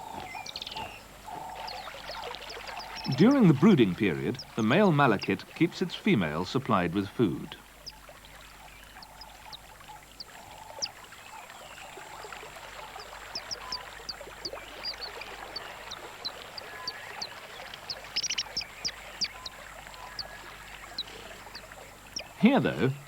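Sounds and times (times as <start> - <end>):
small birds chirping: 0.0 - 23.0
steady background hiss: 0.0 - 23.0.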